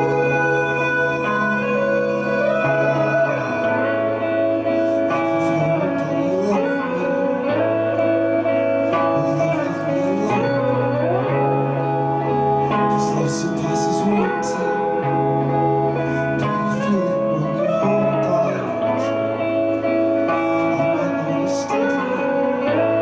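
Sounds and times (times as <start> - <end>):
gliding guitar lines: 0.0 - 23.0
live psychedelic band playing: 0.0 - 23.0.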